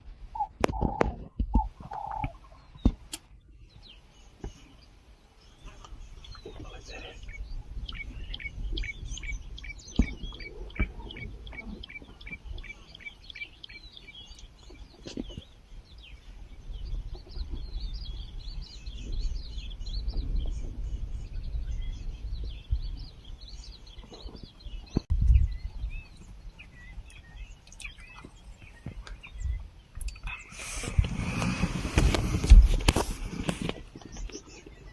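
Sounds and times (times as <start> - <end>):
birds calling: 0.0 - 34.9.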